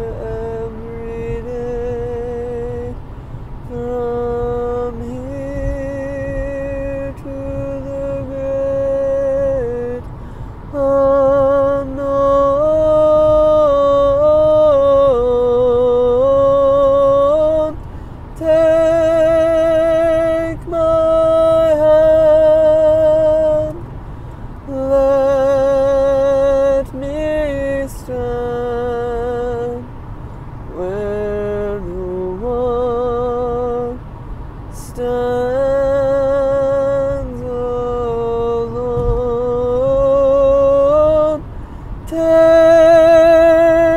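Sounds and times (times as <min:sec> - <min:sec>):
man singing a hymn: 0:00.0 - 0:30.0, 0:30.6 - 0:43.9
car road rumble: 0:00.0 - 0:43.9.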